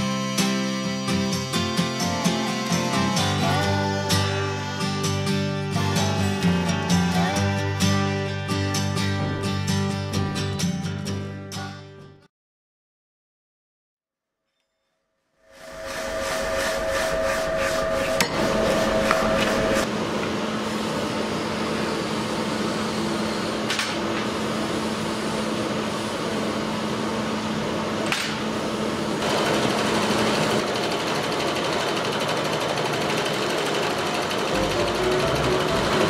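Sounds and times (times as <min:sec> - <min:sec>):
loud machine noise: 0:00.0 - 0:10.7, 0:15.5 - 0:36.0
workshop hum: 0:00.0 - 0:11.3, 0:15.4 - 0:36.0.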